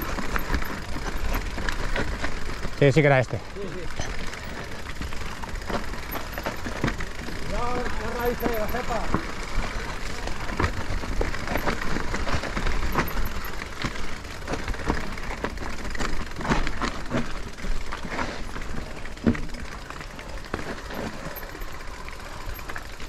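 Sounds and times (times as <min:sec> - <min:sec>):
bike knocks and rattles: 0:00.0 - 0:23.0.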